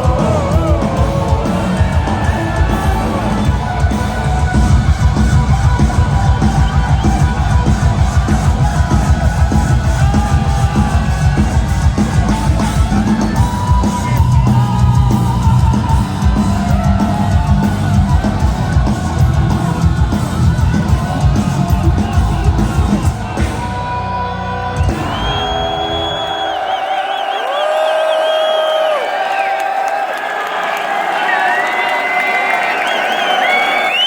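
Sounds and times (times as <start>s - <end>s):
live heavy metal band: 0.0s - 28.2s
crowd yelling: 0.0s - 34.0s.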